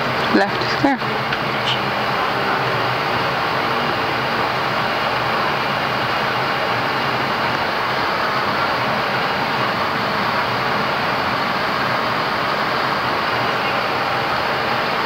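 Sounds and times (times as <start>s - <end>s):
cockpit air-conditioning: 0.0s - 15.0s
jet engines idling: 0.0s - 15.0s.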